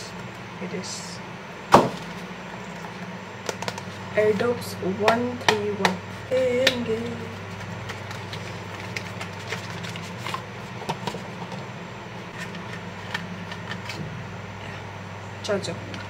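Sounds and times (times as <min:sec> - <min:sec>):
fan humming: 0:00.0 - 0:16.0.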